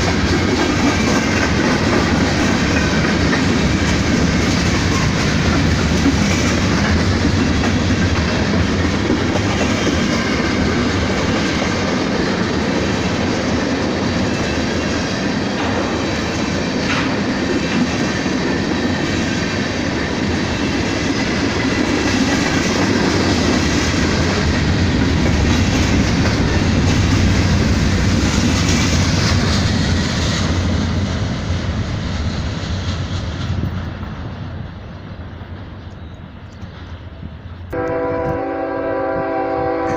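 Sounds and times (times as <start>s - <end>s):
train clank: 0.0s - 34.5s
freight train wheels rumbling: 0.0s - 39.9s.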